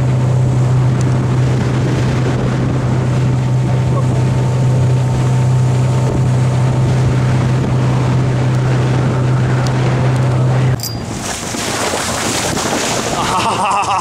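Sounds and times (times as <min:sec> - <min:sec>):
boat motor droning: 0:00.0 - 0:14.0
rushing water: 0:00.0 - 0:14.0
wind: 0:00.0 - 0:14.0.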